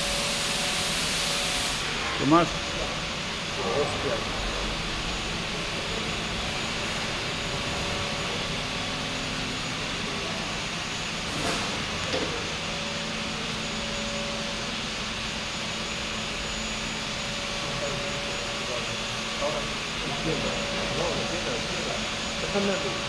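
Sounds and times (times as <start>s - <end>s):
constant machinery hiss: 0.0s - 23.0s.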